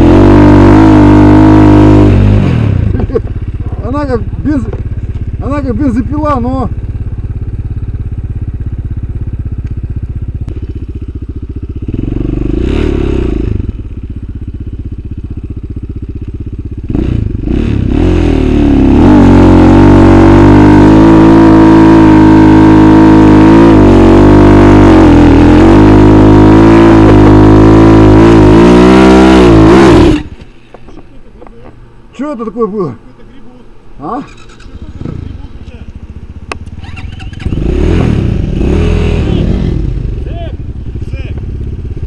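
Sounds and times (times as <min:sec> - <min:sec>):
motorcycle engine revving: 0:00.0 - 0:30.5, 0:34.0 - 0:42.0.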